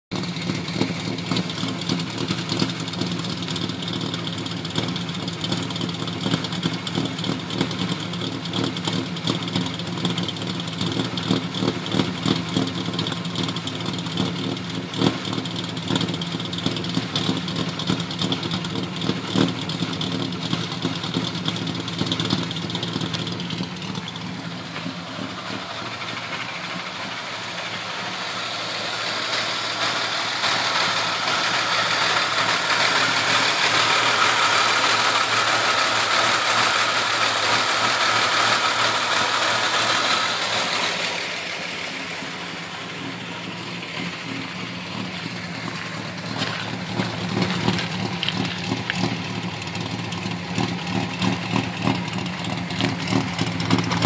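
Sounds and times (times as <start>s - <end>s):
car engine idling unevenly: 0.0s - 54.0s.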